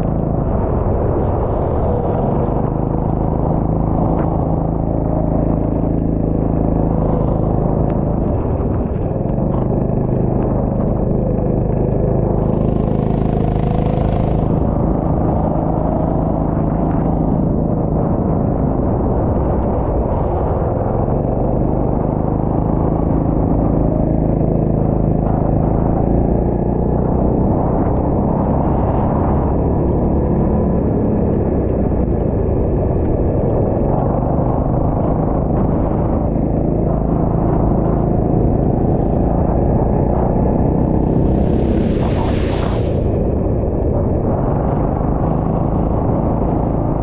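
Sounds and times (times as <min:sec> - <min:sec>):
go-kart engine running: 0:00.0 - 0:47.0.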